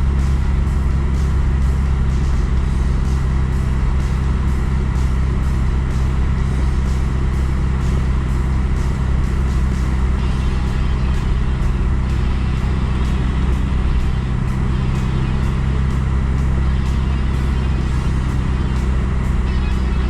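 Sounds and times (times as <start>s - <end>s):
car driving rumble: 0.0s - 20.0s.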